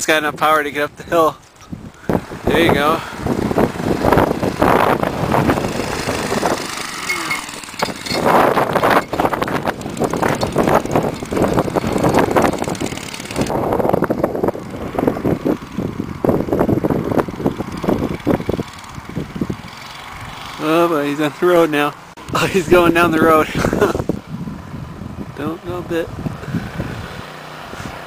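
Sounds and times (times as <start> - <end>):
minibike engine running: 2.1 - 24.7.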